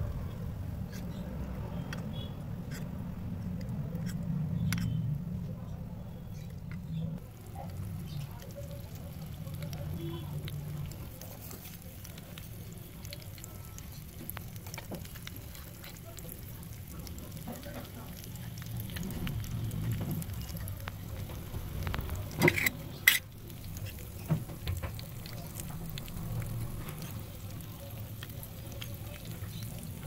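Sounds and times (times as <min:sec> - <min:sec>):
hot oil sizzling and crackling: 0:00.0 - 0:05.1, 0:05.7 - 0:30.0.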